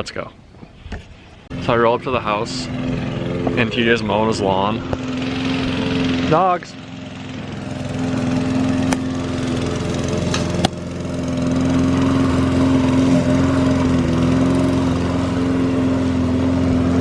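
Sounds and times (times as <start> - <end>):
lawn mower engine running: 1.5 - 17.0.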